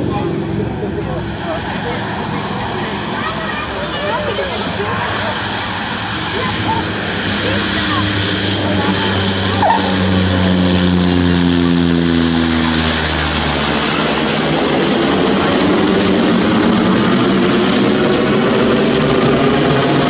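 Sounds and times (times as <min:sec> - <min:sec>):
steady loud rushing noise: 0:00.0 - 0:20.0
turboprop engine and propeller: 0:00.0 - 0:20.0.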